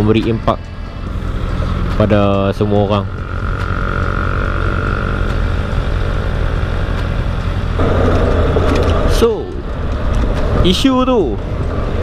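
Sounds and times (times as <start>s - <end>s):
motorcycle engine idling: 0.0s - 10.1s
traffic moving off: 0.0s - 12.0s.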